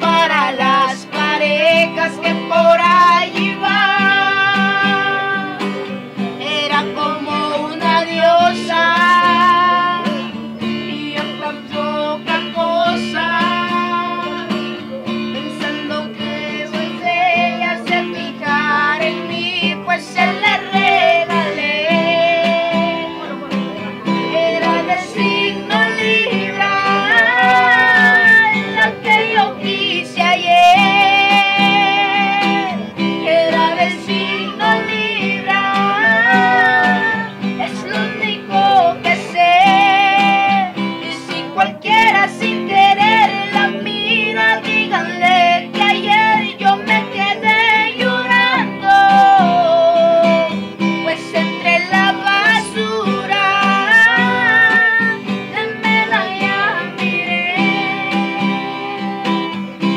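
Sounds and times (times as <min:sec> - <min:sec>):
young male voices singing: 0:00.0 - 0:05.8, 0:06.4 - 0:14.5, 0:15.4 - 0:23.2, 0:24.2 - 0:59.5
strummed acoustic guitar: 0:00.0 - 0:59.9.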